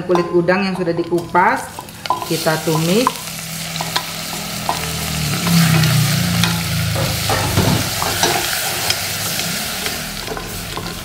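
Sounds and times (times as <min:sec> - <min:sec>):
prawn shells sizzling in oil: 0:01.1 - 0:11.0.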